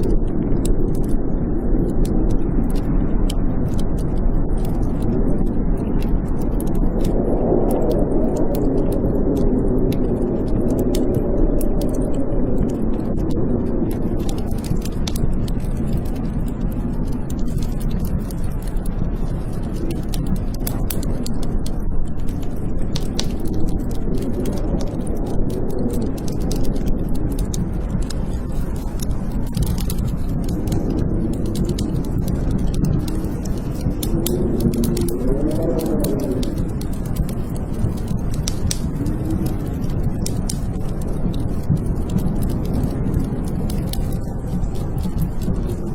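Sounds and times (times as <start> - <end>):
blizzard wind howling: 0.0 - 45.9
wood fire crackling: 0.0 - 45.9.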